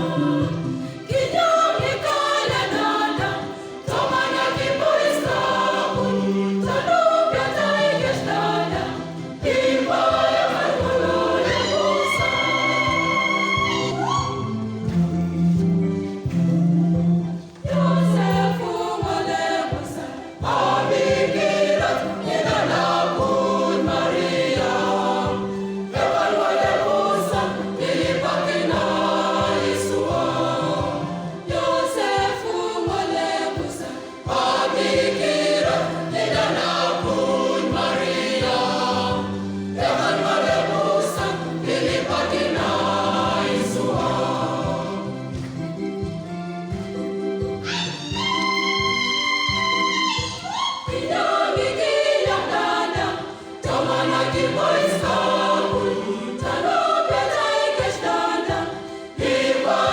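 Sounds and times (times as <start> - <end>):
choir singing gospel song: 0.0 - 59.9.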